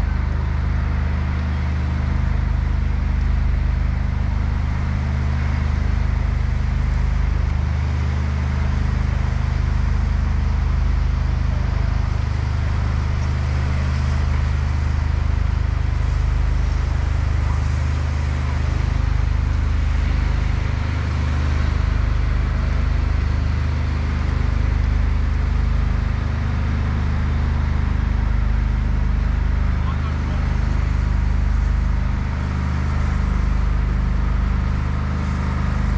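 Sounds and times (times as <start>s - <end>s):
engine droning: 0.0s - 35.9s.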